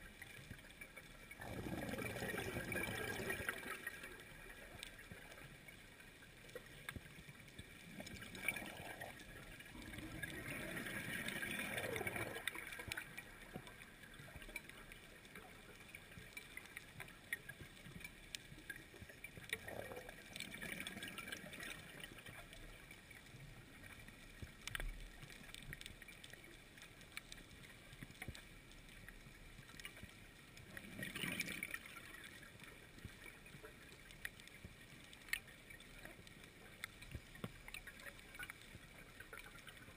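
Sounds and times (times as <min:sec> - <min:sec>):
steady underwater hiss: 0:00.0 - 0:39.9
water-like noise: 0:00.0 - 0:39.9.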